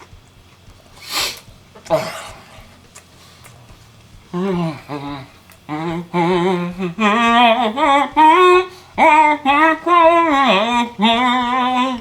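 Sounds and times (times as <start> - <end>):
man humming: 1.4 - 12.0.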